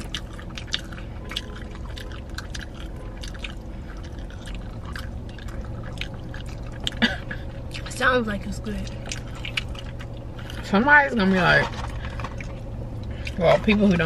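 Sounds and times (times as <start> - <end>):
chewing mouth sounds: 0.0 - 8.0, 8.8 - 10.7, 11.8 - 13.7
low hum inside a car: 0.0 - 14.0.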